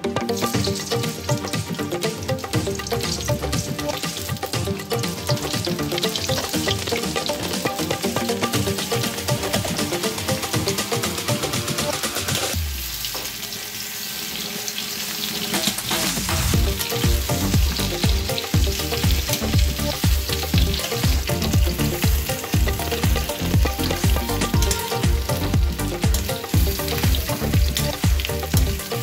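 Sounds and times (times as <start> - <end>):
potatoes sizzling in a pan: 0.2 - 29.0.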